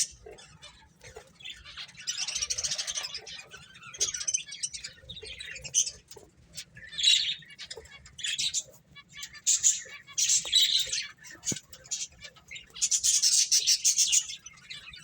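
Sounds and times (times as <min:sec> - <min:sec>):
finches chirping: 0:00.0 - 0:15.0.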